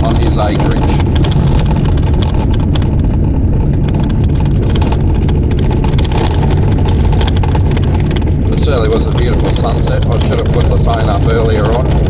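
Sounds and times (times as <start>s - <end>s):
car rumbling on gravel road: 0.0s - 12.0s
gravel ticks: 0.0s - 12.0s.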